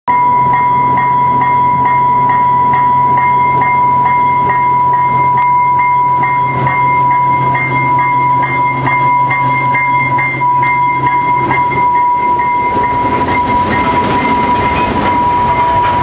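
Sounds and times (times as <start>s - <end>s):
diesel locomotive humming: 0.1s - 16.0s
train bell ringing rapidly: 0.1s - 16.0s.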